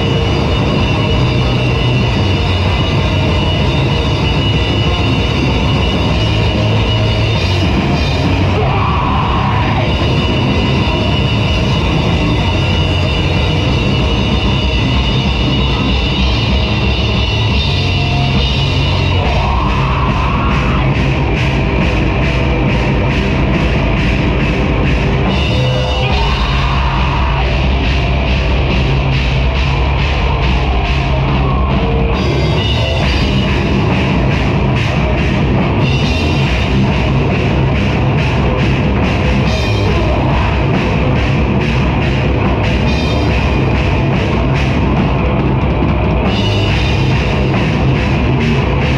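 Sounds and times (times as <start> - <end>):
heavy metal band playing: 0.0 - 48.9.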